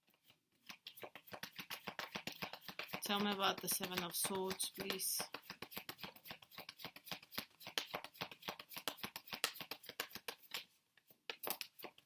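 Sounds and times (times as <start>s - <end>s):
cards being shuffled: 0.2s - 12.0s.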